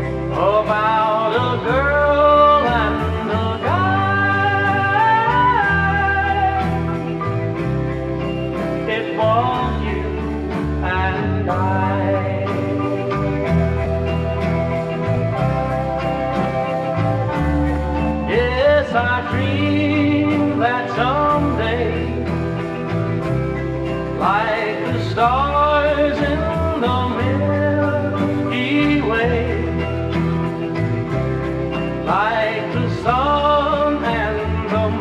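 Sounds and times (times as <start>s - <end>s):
instrumental ballad music: 0.0s - 35.0s.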